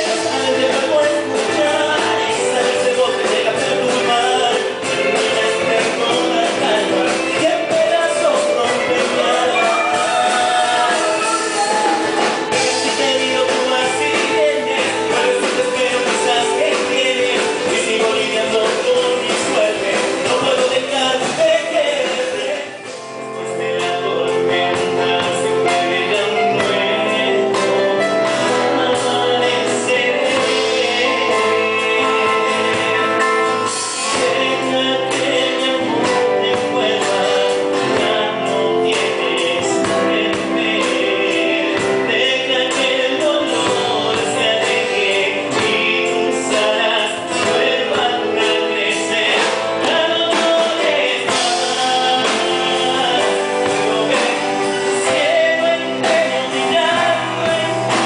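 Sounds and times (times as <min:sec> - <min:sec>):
live band music: 0:00.0 - 0:58.0.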